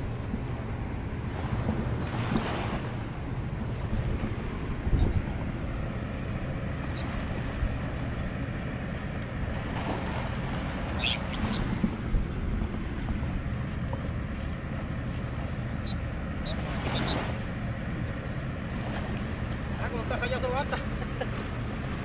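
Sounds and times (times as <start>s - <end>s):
wind rumbling on microphone: 0.0s - 20.3s
small waves lapping: 0.0s - 22.0s.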